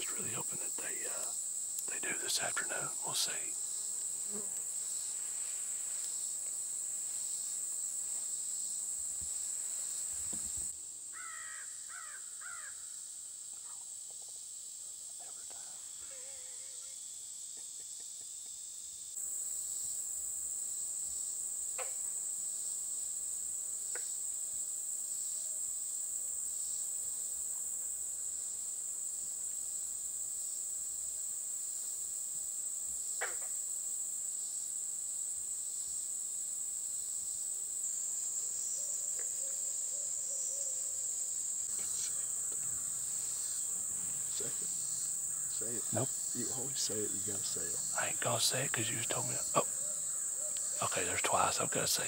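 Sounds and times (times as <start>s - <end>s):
insects chirping: 0.0s - 52.0s.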